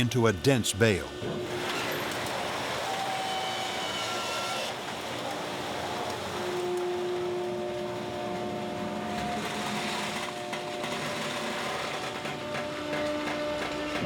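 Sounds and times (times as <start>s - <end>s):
hydraulic baler humming: 0.0s - 14.0s.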